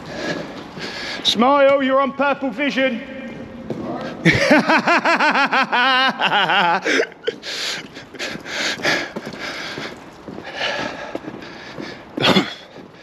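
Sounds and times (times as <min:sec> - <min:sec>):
footsteps: 0:00.0 - 0:13.0.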